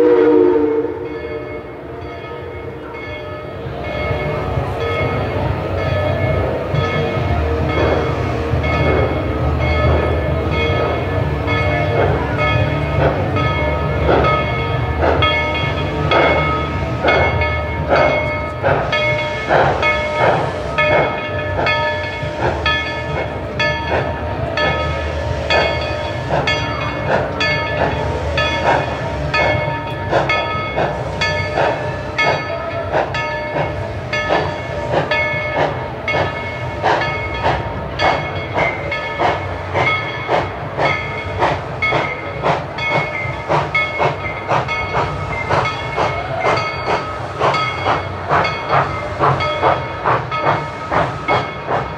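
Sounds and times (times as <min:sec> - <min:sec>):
steam train clattering: 0:00.0 - 0:51.9.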